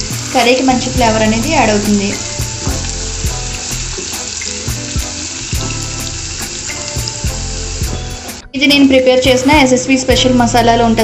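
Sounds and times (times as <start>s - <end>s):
food sizzling in hot oil: 0.0s - 11.0s
soft background music: 0.0s - 11.0s.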